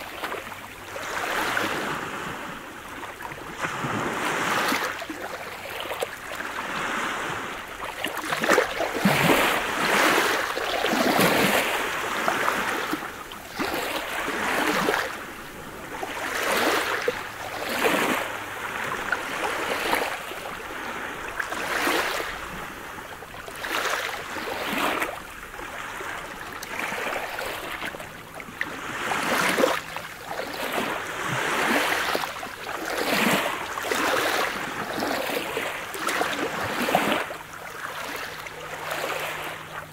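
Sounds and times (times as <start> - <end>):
small waves lapping on pebbles: 0.0 - 39.9.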